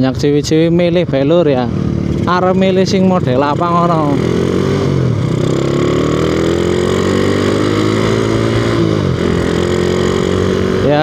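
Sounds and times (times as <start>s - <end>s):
motorcycle engine riding: 0.0s - 11.0s.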